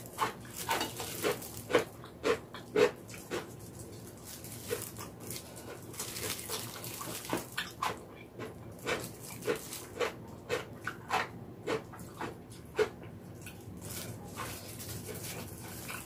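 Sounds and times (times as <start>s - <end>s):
close chewing and mouth sounds: 0.0s - 16.0s.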